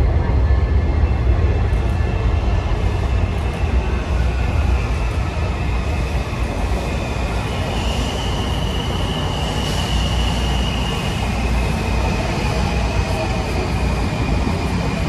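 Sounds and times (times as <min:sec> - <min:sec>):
subway train rumbling: 0:00.0 - 0:15.0
high steady squeal: 0:01.9 - 0:15.0.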